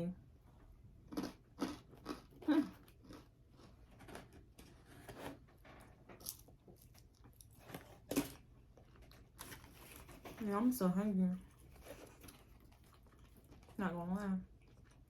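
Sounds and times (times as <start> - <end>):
chewing pizza: 1.1 - 10.4, 11.4 - 15.0.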